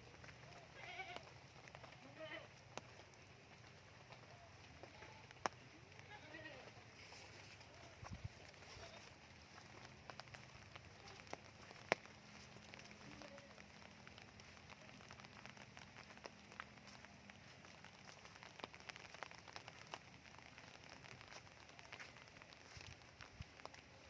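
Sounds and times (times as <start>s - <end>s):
raindrops ticking: 0.0s - 24.0s
soft rain patter: 0.0s - 24.0s.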